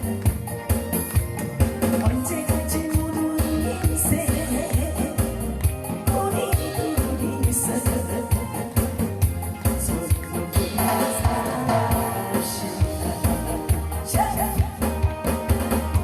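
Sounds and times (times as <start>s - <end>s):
upbeat song over sound system: 0.0s - 16.0s.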